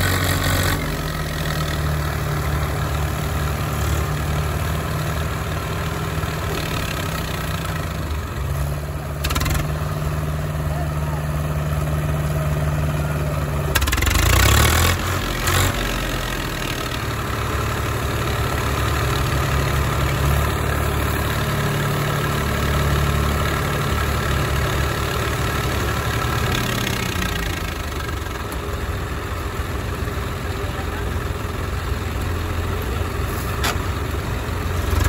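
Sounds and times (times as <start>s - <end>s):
second tractor engine: 0.0s - 35.0s
tractor diesel engine running: 0.0s - 35.0s.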